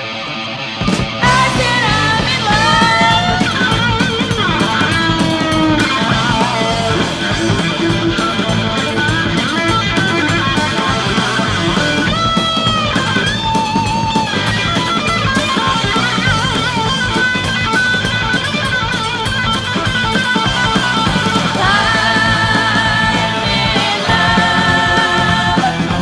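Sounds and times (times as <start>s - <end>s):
heavy metal band playing: 0.0s - 26.0s
lead electric guitar: 0.0s - 26.0s.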